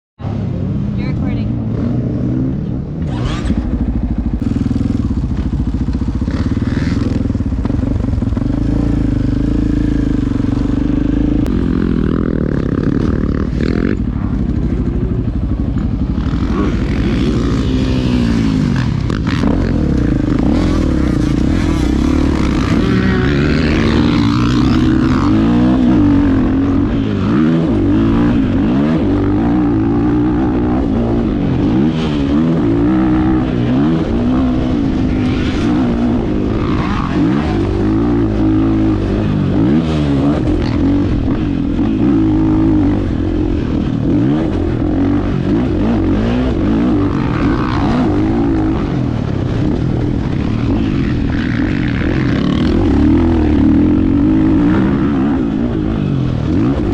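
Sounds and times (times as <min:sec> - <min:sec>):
motorcycle engine revving: 0:00.2 - 0:56.9.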